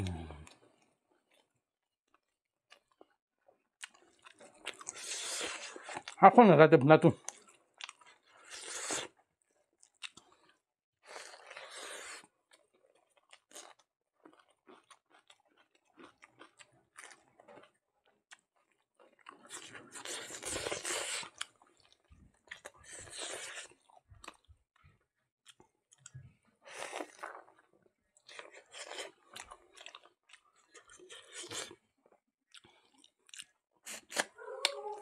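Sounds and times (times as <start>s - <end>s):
close chewing: 3.8s - 6.2s, 7.2s - 9.2s, 9.8s - 35.0s.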